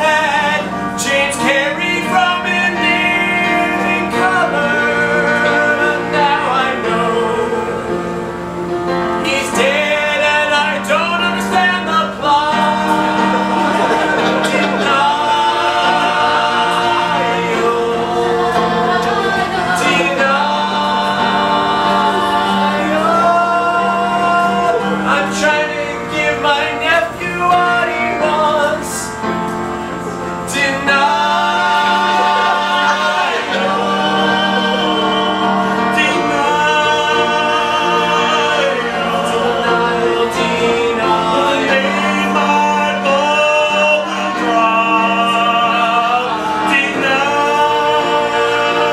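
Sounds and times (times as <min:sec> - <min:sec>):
musical accompaniment: 0:00.0 - 0:48.9
voices singing in harmony: 0:00.0 - 0:48.9.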